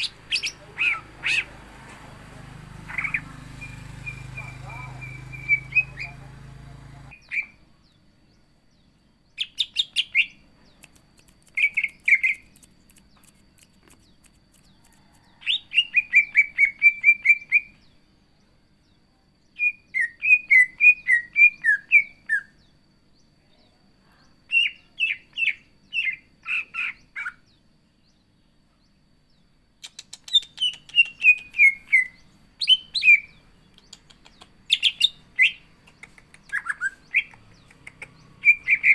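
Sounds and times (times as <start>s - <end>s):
bird singing high chirps: 0.0s - 28.3s, 29.3s - 38.9s.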